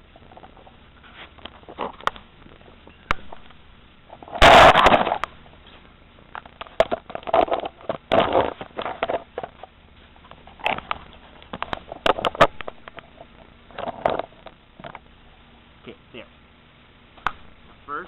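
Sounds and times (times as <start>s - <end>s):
rustling: 0.0s - 15.5s.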